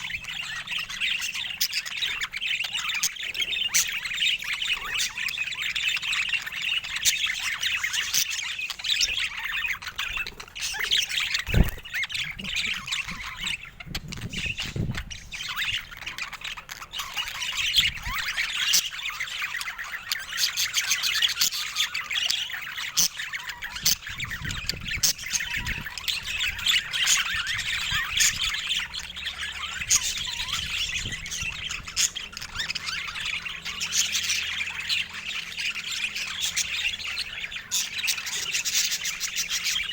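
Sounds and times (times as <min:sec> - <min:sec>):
bird squawks: 0:00.0 - 0:39.9
budgerigars chattering and warbling: 0:00.0 - 0:39.9.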